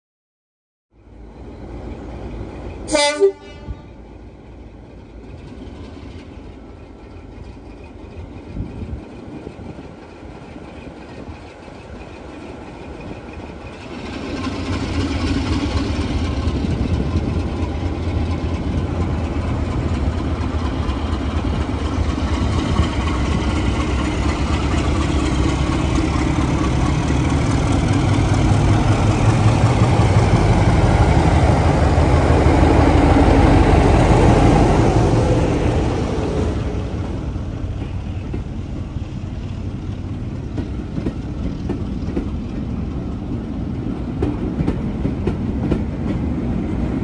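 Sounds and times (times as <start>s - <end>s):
diesel locomotive engine working hard: 1.0s - 47.0s.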